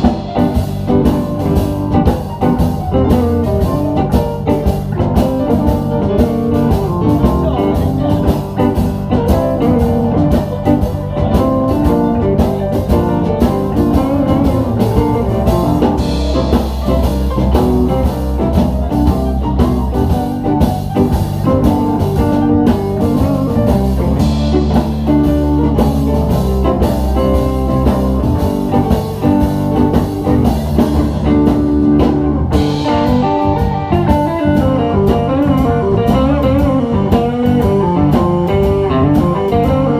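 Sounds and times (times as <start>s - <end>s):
live blues band playing: 0.0s - 39.9s.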